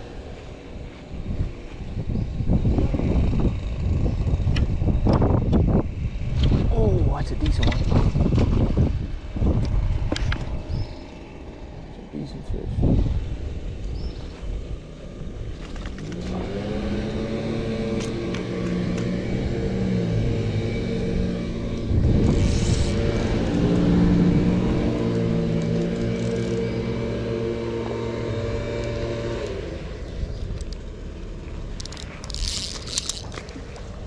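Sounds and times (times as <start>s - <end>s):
steady low rumble: 0.0s - 34.0s
vehicle engine revving: 0.0s - 34.0s.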